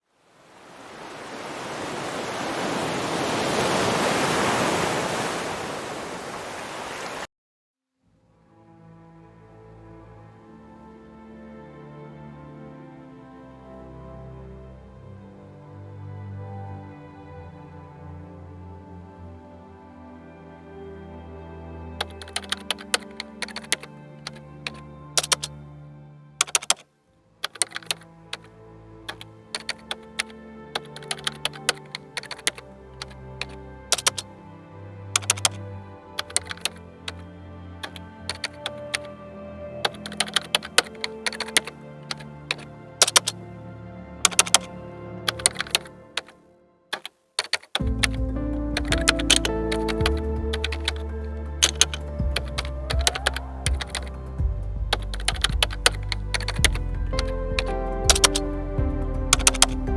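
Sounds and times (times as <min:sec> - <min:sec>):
soft sustained music tones: 0:08.0 - 0:26.4, 0:27.0 - 0:46.9, 0:47.8 - 0:59.9.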